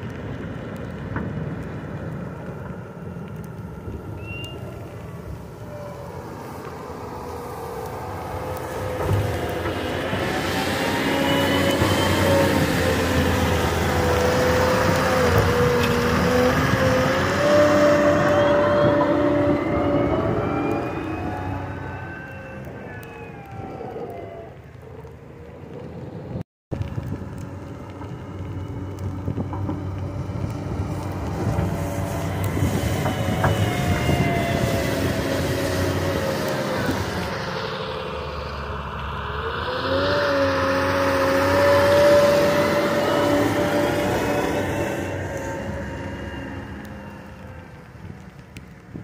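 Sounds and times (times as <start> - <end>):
steady engine whine: 0.0 - 49.0
wheel loader diesel engine: 0.0 - 49.0.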